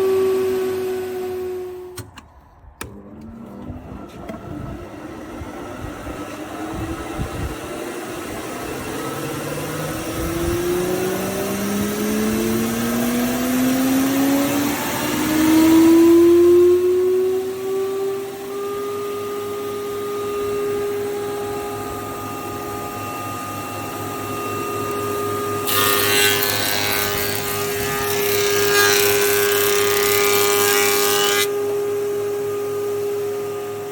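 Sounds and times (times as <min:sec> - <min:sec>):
planer motor hum: 0:02.8 - 0:33.9.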